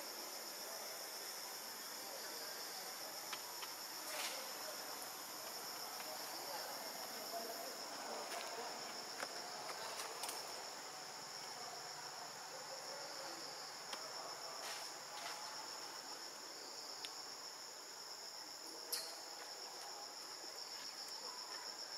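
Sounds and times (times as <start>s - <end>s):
high-pitched insect chorus: 0.0s - 21.9s.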